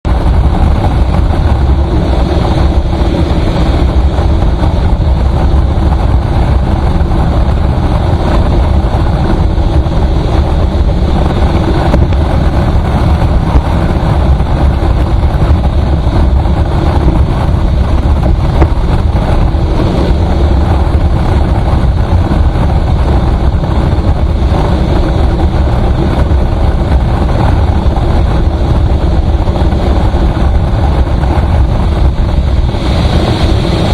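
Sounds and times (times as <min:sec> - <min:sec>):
vehicle rumble at highway speed: 0:00.0 - 0:33.9.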